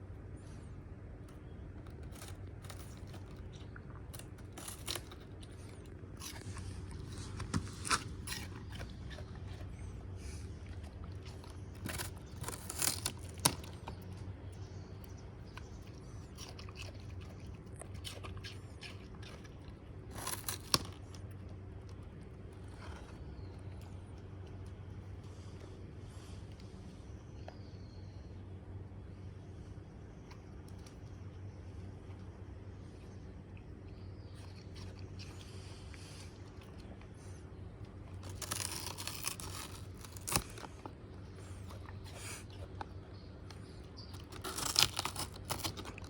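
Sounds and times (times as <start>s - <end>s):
dog crunching cabbage leaves: 0.2s - 26.8s, 30.2s - 46.0s.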